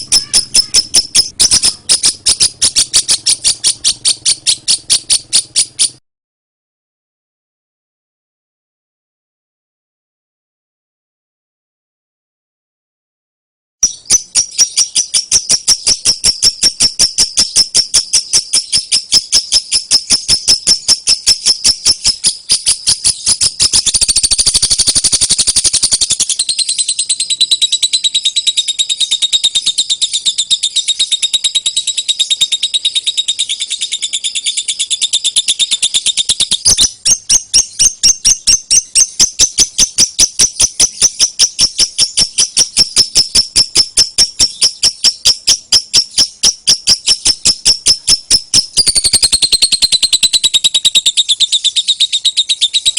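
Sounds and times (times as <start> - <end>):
lovebird shrill song: 0.0 - 6.0, 13.8 - 52.9.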